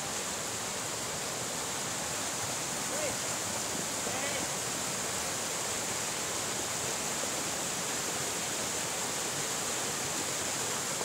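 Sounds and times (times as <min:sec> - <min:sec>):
floodwater rushing over stones: 0:00.0 - 0:11.0.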